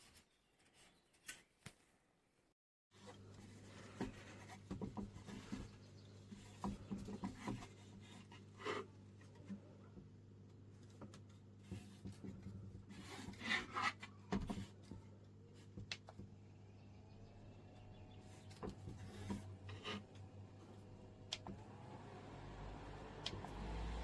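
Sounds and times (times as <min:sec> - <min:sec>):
rubbing and scraping handling noise: 0:03.0 - 0:16.4, 0:17.7 - 0:23.7.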